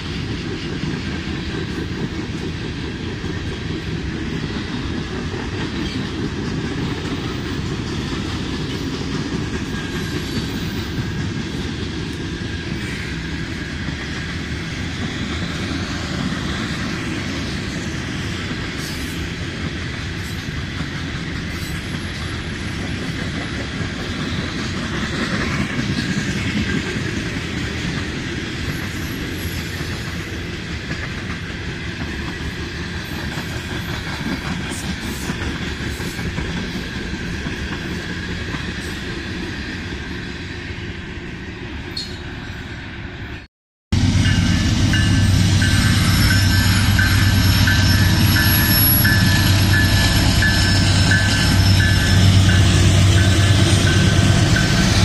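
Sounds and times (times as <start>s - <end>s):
railroad cars rumbling past: 0.0s - 55.0s.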